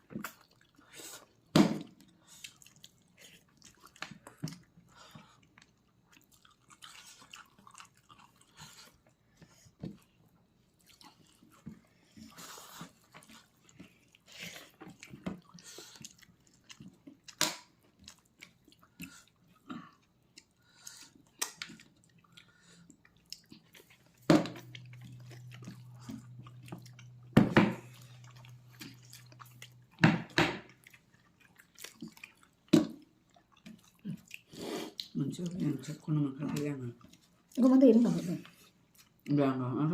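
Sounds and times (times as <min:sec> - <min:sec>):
wet chewing and mouth smacks: 0:00.0 - 0:37.6, 0:38.4 - 0:39.4.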